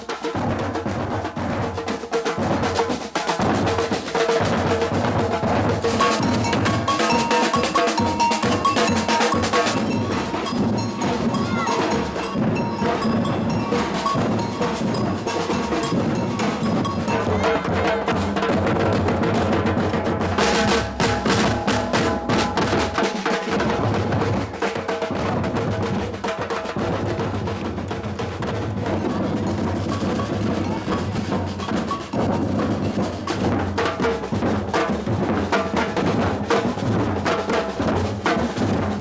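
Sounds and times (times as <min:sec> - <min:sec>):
samba drums playing: 0:00.0 - 0:39.0.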